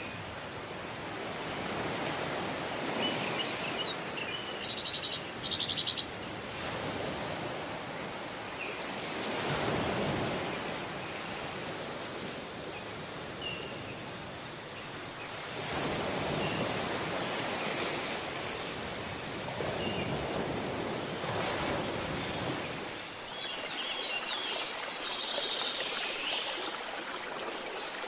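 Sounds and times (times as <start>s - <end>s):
ocean waves washing in: 0.0s - 28.0s.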